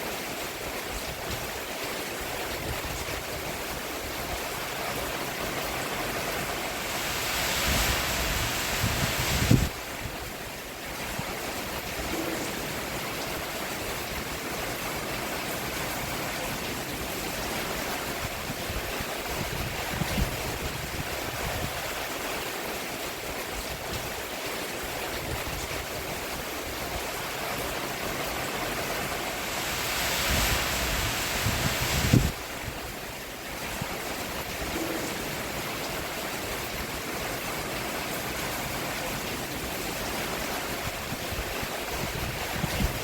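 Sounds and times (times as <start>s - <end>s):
rain on a roof: 0.0s - 43.0s.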